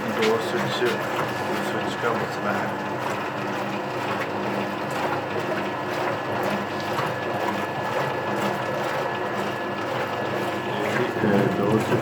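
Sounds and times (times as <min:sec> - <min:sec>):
washing machine churning water: 0:00.0 - 0:12.0.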